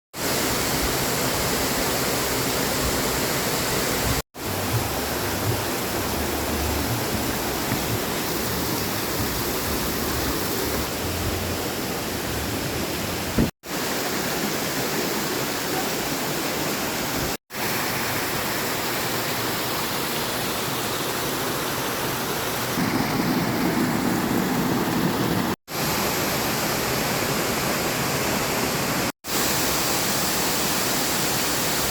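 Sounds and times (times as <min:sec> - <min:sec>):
waterfall rushing: 0:00.2 - 0:28.8.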